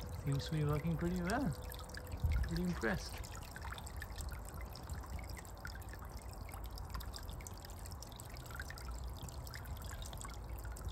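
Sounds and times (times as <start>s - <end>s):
fountain trickling and splashing: 0.0s - 10.9s.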